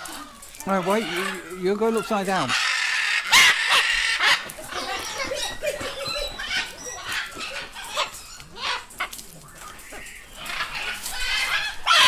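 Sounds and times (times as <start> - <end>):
parrots squawking: 0.0 - 9.2, 9.8 - 12.0.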